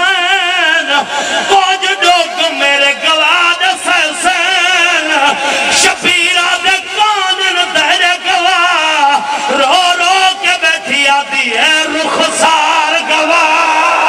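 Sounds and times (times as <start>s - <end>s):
man chanting into microphones: 0.0s - 14.0s.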